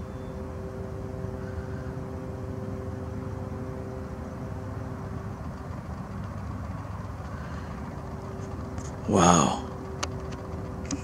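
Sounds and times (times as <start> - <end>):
humming tones: 0.0 - 11.0
low engine drone: 0.0 - 11.0.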